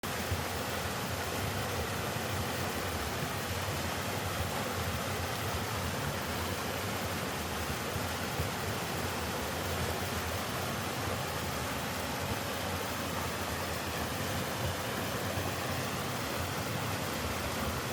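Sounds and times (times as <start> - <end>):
waterfall rushing over rock: 0.0 - 17.9.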